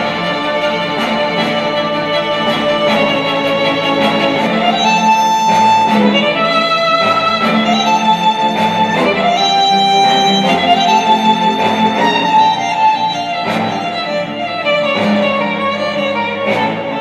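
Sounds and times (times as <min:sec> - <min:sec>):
cinematic violin music: 0:00.0 - 0:17.0.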